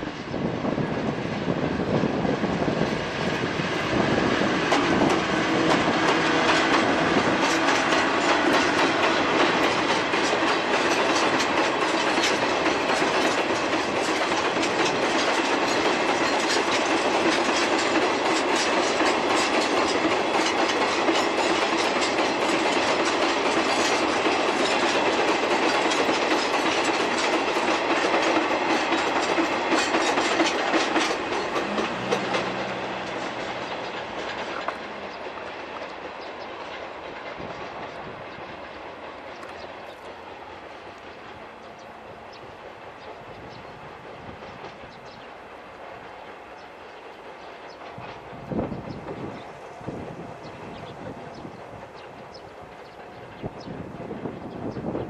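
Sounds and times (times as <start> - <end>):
train wheels clattering over rail joints: 0.2 - 55.0.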